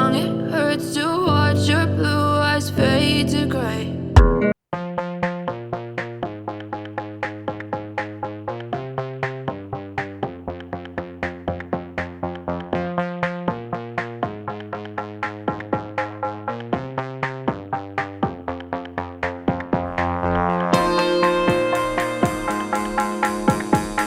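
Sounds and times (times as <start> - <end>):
synthesizer chords: 0.0 - 24.0
electronic beat: 4.2 - 24.0.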